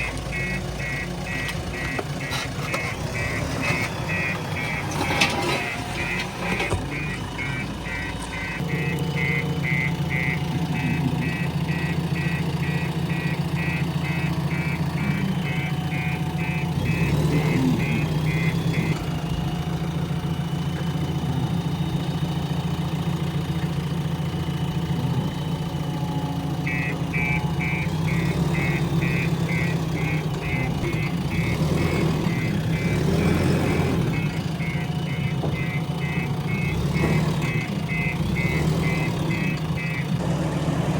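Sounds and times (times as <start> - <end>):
reversing alarm beeping: 0.0 - 40.2
diesel engine running: 0.0 - 40.9.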